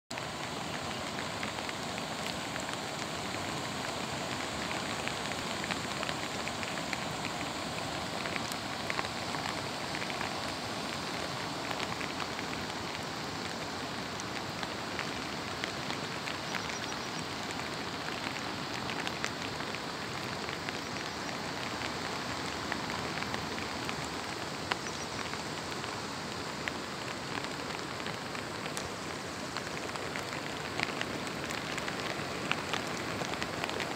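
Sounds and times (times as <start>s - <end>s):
close raindrop ticks: 0.1s - 33.9s
steady rain hiss: 0.1s - 33.9s.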